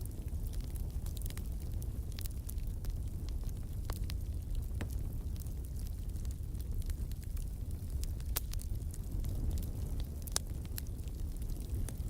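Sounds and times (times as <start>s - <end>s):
low fire rumble: 0.0s - 12.0s
wood fire crackling and popping: 0.0s - 12.0s.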